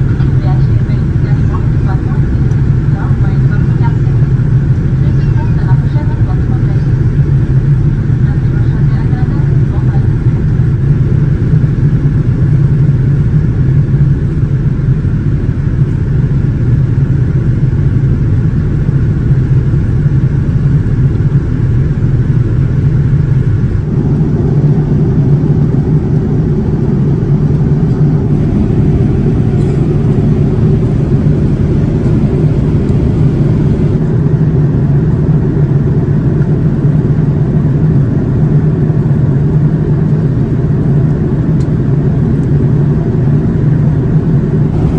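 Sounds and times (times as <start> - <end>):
airliner cabin engine and airflow rush: 0.0 - 44.9.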